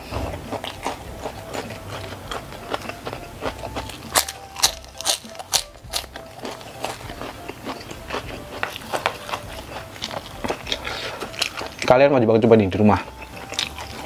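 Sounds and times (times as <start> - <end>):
sharp biting sounds: 0.0 - 11.9
chewing with wet clicks: 0.2 - 14.0.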